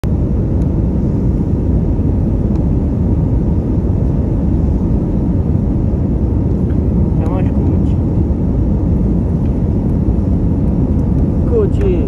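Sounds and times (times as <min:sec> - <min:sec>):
jet engines rumbling: 0:00.0 - 0:12.0
rushing air: 0:00.0 - 0:12.0.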